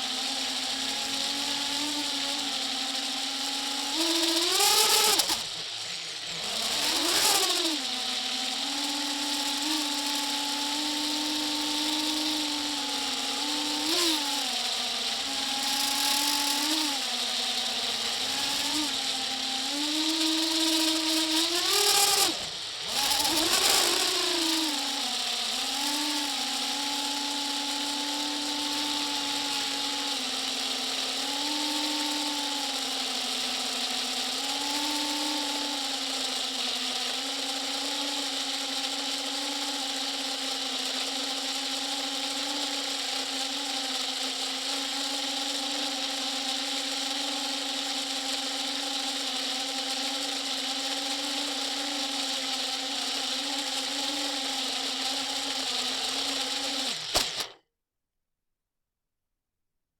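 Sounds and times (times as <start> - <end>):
motor running: 0.0 - 57.6.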